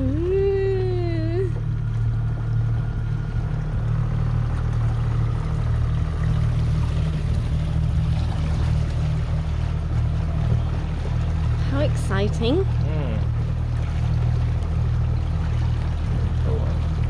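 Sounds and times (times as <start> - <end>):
outboard motor droning: 0.0 - 17.0.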